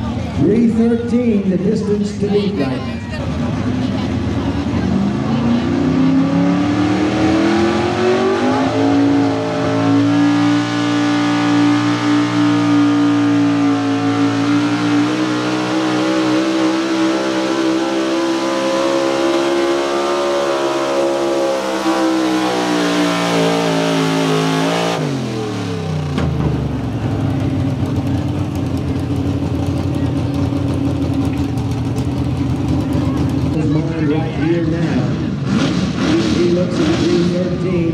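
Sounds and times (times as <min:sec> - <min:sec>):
pickup engine at full throttle: 0:00.0 - 0:37.9.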